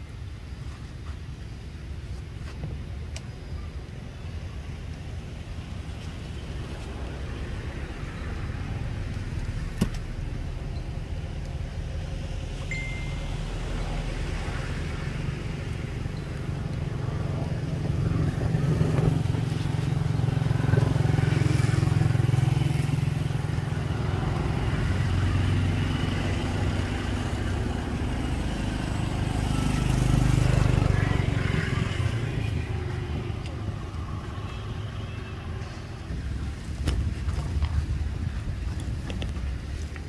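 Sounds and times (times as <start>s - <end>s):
vehicle engines rumbling: 0.0s - 40.0s.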